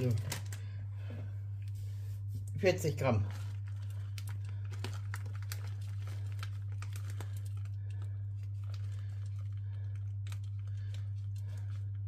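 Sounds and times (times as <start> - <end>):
packet crinkling: 0.0 - 0.8, 2.9 - 12.0
low hum: 0.0 - 12.0.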